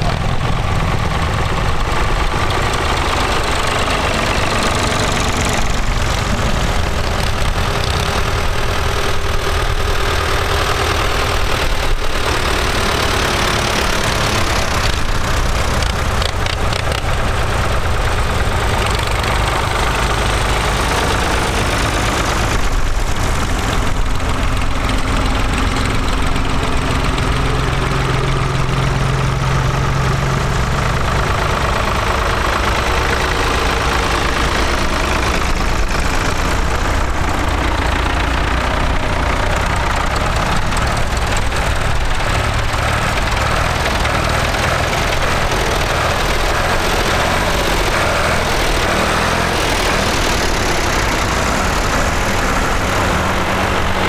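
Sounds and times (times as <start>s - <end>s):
tractor diesel engines running: 0.0s - 54.0s.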